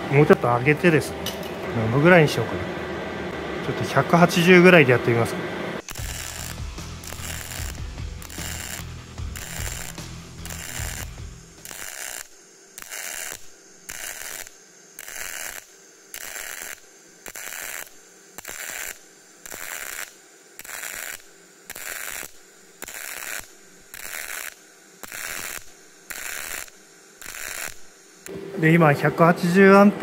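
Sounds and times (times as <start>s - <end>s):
welding arc crackling sizzle: 3.3s - 29.6s.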